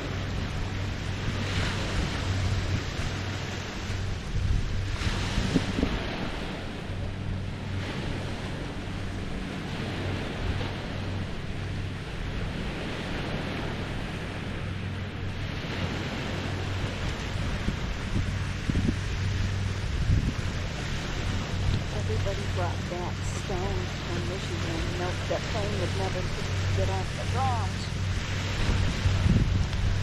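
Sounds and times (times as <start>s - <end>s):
low steady hum: 0.0s - 30.0s
waves lapping on shore: 0.0s - 30.0s.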